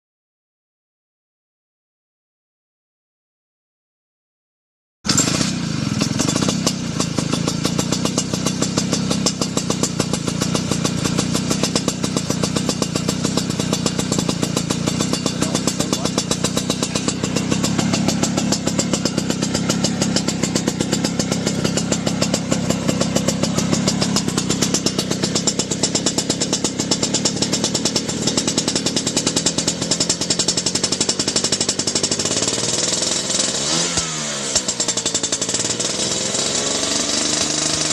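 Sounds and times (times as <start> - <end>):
scooter engine running: 5.1 - 37.9.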